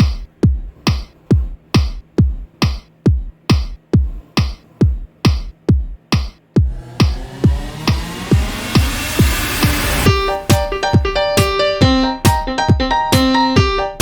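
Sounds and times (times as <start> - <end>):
electronic music with drum-machine beat: 0.0 - 14.0.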